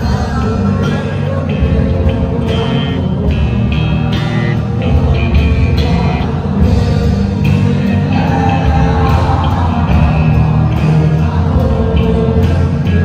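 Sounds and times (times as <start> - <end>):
drums: 0.0 - 13.0
electric guitars: 0.0 - 13.0
man singing: 0.0 - 13.0.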